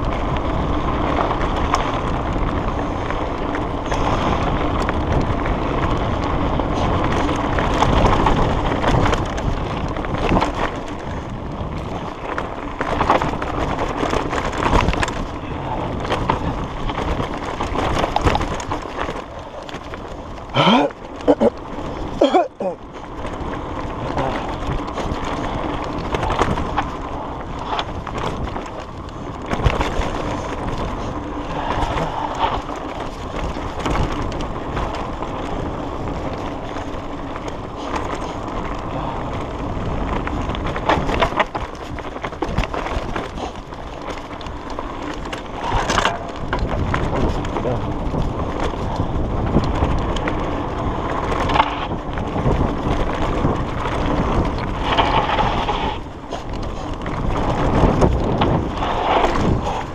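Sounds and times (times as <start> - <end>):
bike knocks and rattles: 0.0 - 59.9
bike tyres rolling on dirt: 0.0 - 59.9.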